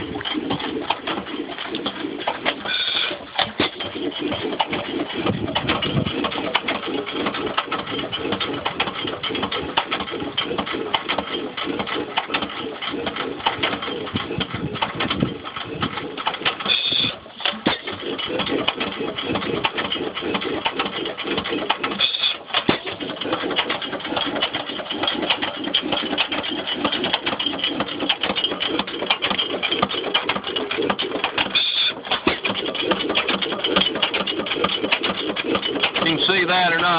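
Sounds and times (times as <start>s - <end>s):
stationary gas engine running: 0.0s - 36.9s
valve clatter: 0.0s - 36.9s.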